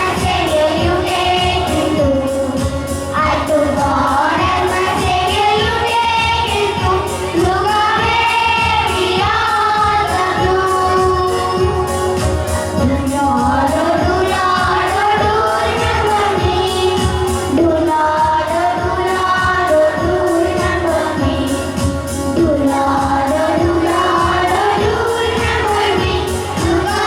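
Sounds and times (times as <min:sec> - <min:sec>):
song with singing and beat: 0:00.0 - 0:27.0.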